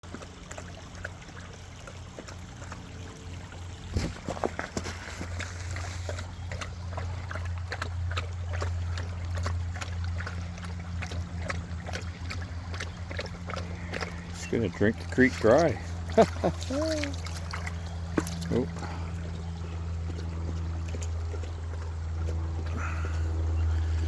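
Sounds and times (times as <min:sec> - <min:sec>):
creek trickling over rocks: 0:00.0 - 0:24.0
water splashing clatter: 0:00.0 - 0:24.0.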